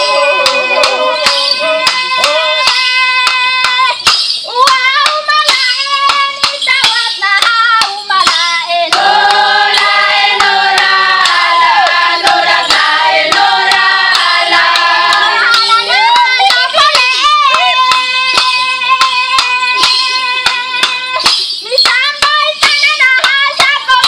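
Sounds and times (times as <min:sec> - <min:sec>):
women singing together: 0:00.0 - 0:21.2
sharp percussive beats: 0:00.0 - 0:24.0.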